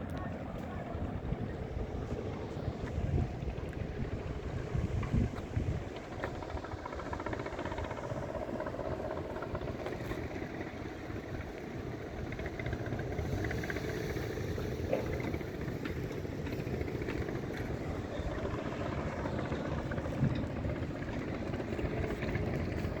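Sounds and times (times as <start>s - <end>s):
vehicle engine and tyre rumble: 0.0s - 23.0s.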